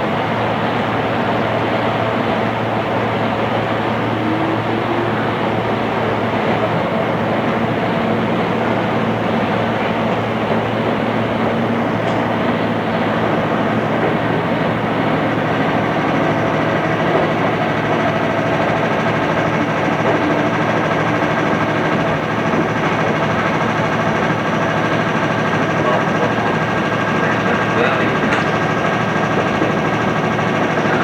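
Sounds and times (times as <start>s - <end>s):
train interior rumble and hum: 0.0s - 31.0s.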